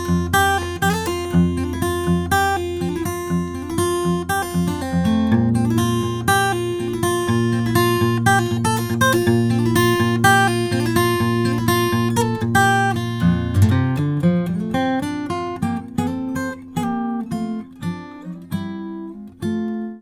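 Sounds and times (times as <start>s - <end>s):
acoustic guitar picking: 0.0s - 20.0s.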